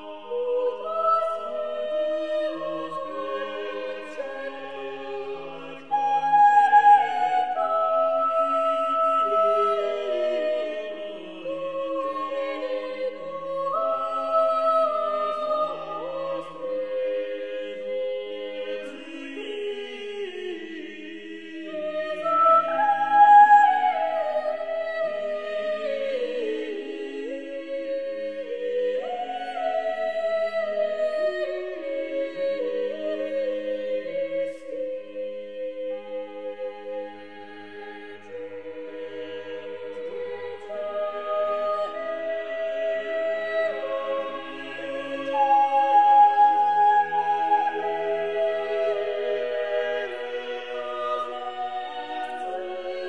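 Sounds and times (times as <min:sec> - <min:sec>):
choir singing held notes: 0:00.0 - 0:53.0.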